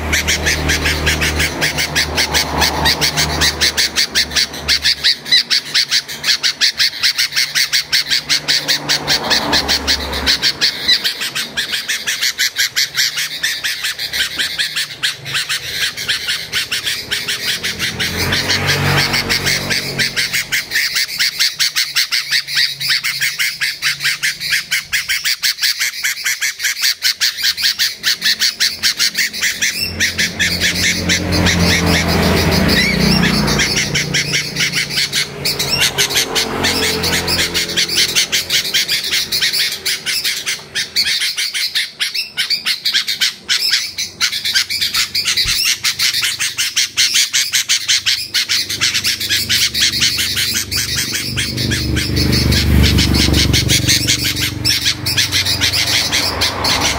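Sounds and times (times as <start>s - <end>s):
songbird chattering: 0.0s - 56.9s.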